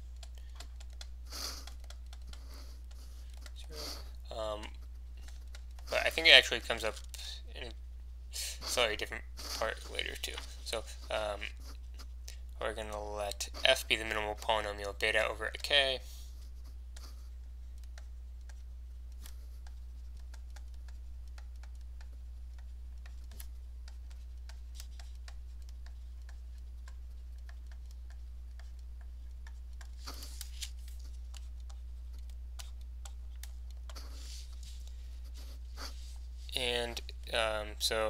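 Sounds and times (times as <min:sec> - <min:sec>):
stylus ticks and taps on a screen: 0:00.0 - 0:07.2, 0:08.8 - 0:38.0
steady low hum: 0:00.0 - 0:38.0.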